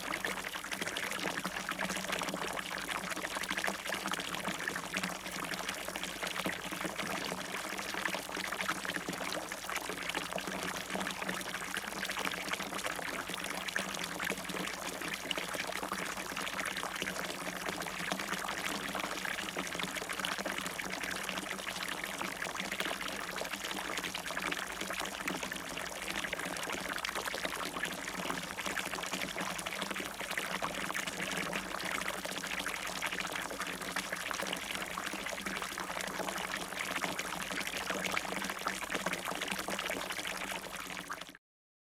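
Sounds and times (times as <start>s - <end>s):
water splashing in a fountain: 0.0s - 41.4s.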